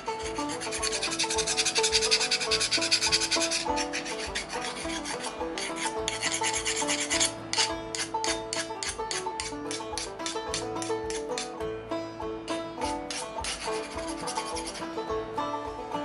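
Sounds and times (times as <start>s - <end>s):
rasping strokes on steel: 0.0s - 11.6s, 12.8s - 15.0s
acoustic background music: 0.0s - 16.0s.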